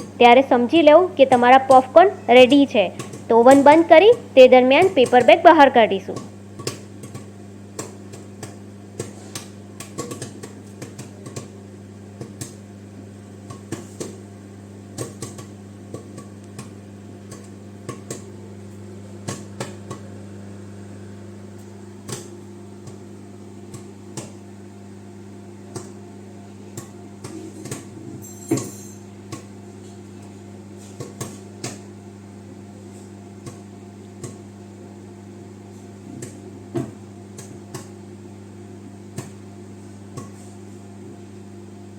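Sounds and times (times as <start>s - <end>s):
popcorn popping: 0.0s - 41.5s
microwave oven humming: 0.0s - 41.9s.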